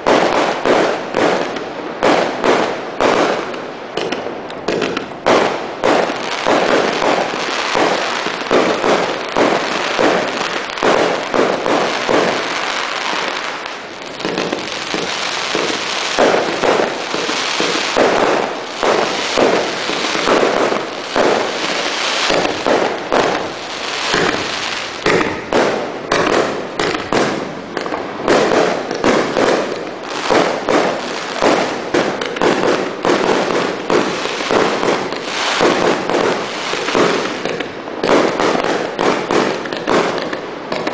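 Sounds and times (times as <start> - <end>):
fireworks crackling: 0.0 - 40.9
fireworks shots and aerial breaks: 0.0 - 40.9.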